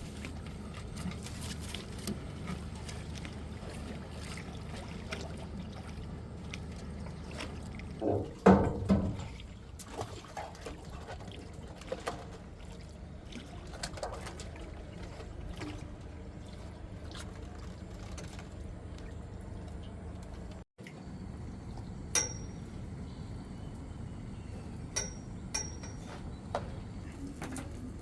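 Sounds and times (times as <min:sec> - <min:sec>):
water splashing and trickling: 0:00.0 - 0:28.0.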